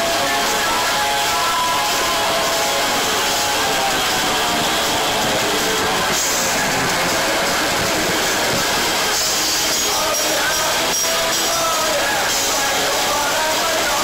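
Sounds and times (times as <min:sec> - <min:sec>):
distorted live punk rock band: 0:00.0 - 0:14.0.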